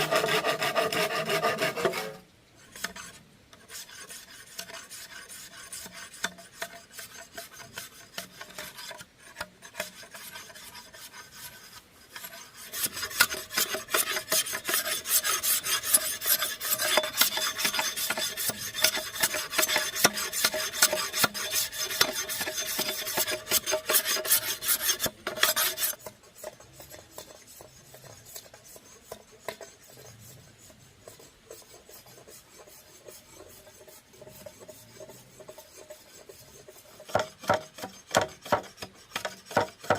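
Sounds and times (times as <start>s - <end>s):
rasping scraping on bamboo: 0.0s - 39.9s.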